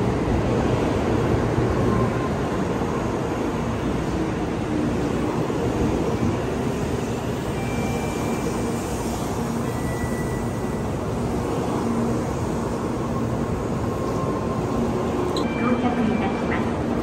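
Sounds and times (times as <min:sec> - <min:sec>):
train rumbling into station: 0:00.0 - 0:17.0.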